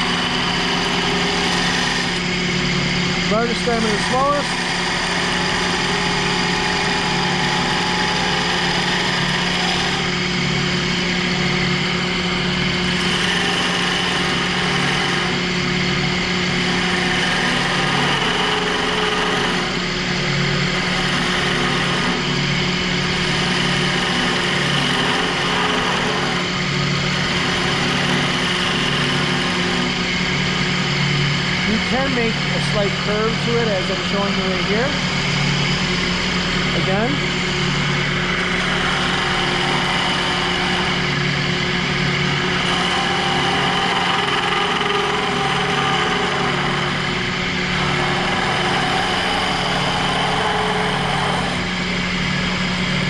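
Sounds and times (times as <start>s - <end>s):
scraper scraping spinning wood: 0.0s - 2.4s, 3.2s - 20.0s, 20.6s - 30.9s, 38.2s - 52.0s
lathe motor hum: 0.0s - 53.0s.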